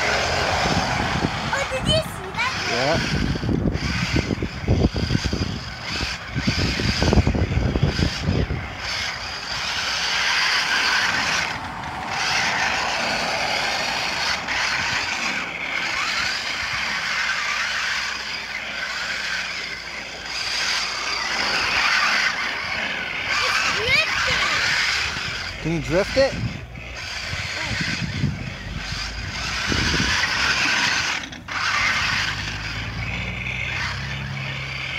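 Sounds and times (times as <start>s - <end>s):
toy truck motor whirring: 0.0s - 34.9s.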